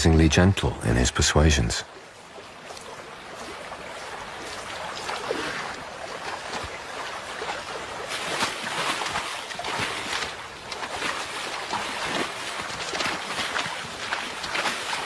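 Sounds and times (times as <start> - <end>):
hooves splashing in water: 0.0 - 15.0.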